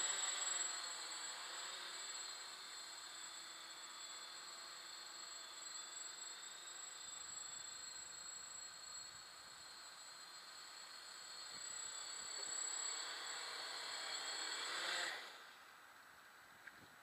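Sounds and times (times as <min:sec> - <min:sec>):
quadcopter propellers buzzing: 0:00.0 - 0:15.7.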